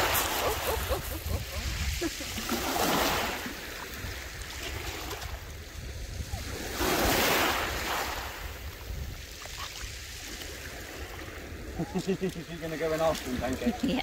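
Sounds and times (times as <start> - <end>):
small waves washing over stones: 0.0 - 14.0
wind rumble on microphone: 0.0 - 14.0.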